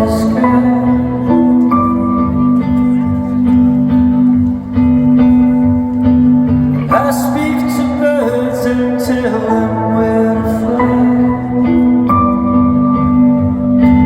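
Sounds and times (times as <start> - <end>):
band playing slow song: 0.0 - 14.0
person singing: 0.0 - 14.0.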